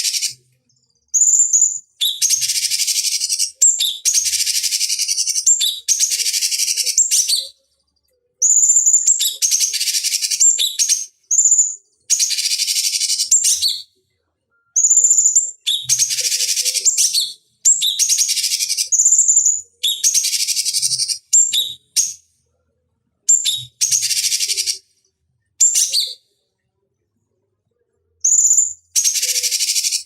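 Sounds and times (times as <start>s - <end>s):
bird singing whistle and chatter: 0.0s - 7.6s, 8.4s - 22.2s, 23.3s - 24.9s, 25.6s - 26.4s, 28.2s - 30.0s.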